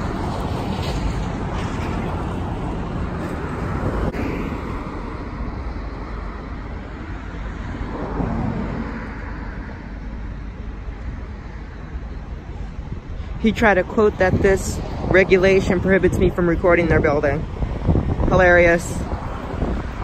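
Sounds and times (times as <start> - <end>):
passing cars: 0.0 - 20.0.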